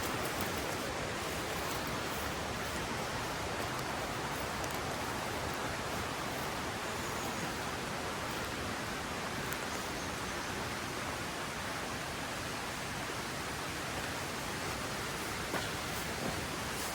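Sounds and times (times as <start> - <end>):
river rushing over rocks: 0.0 - 16.9.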